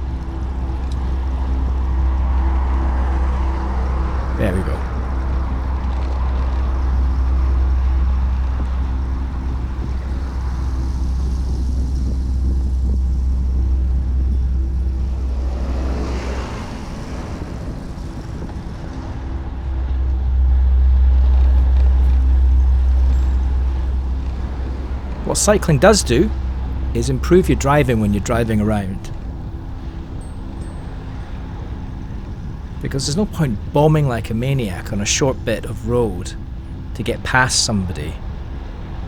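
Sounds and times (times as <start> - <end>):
road traffic: 0.0 - 39.0
vehicle passing: 0.0 - 39.0
wind rumbling on microphone: 0.0 - 39.0.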